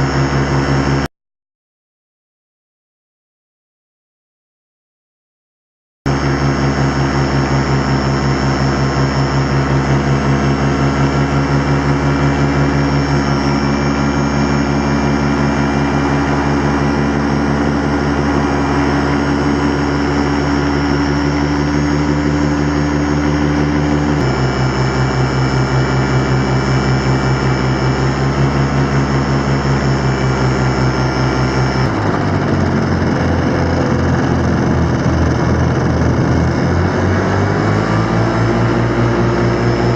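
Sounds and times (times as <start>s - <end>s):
paramotor engine and propeller running: 0.0s - 1.1s, 6.1s - 39.9s.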